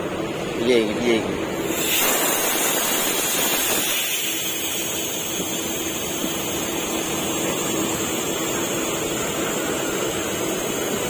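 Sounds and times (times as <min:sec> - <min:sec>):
air-conditioning noise: 0:00.0 - 0:11.0.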